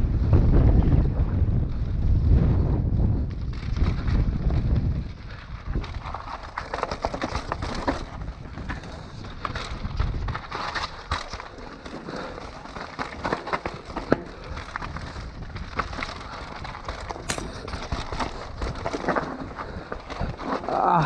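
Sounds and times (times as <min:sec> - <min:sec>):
wind buffeting microphone: 0:00.0 - 0:21.0
bike tyres crunching over stones: 0:01.5 - 0:21.0
bike clicks and rattles: 0:02.7 - 0:21.0.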